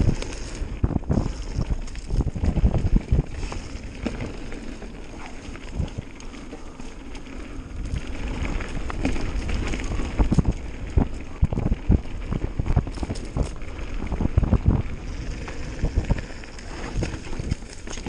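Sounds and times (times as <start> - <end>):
bike knocking and rattling: 0.0 - 18.0
bike tyre rumble: 0.0 - 18.0
wind buffeting microphone: 0.0 - 18.0.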